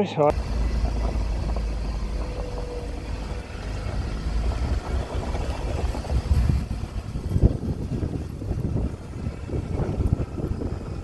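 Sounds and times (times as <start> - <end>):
engine idling: 0.3 - 11.0.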